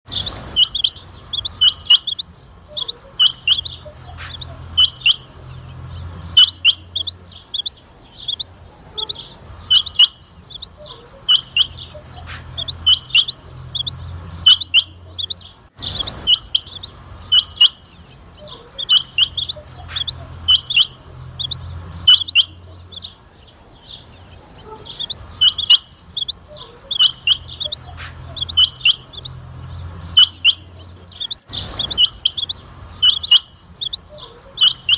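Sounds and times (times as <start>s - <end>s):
quail calling: 0.1s - 34.9s.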